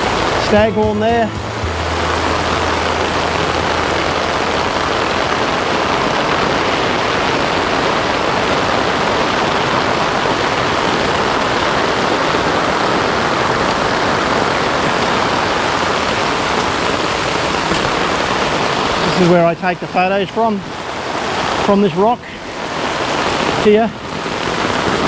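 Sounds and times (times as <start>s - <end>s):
fast water rushing: 0.0s - 25.0s.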